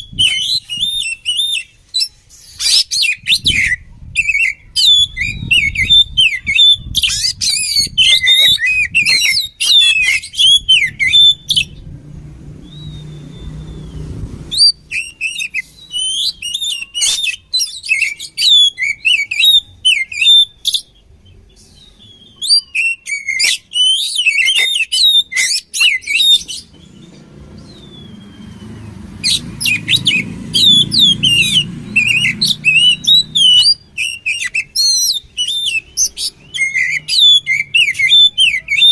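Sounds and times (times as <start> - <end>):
bird whistling song: 0.0 - 11.9, 12.5 - 38.9.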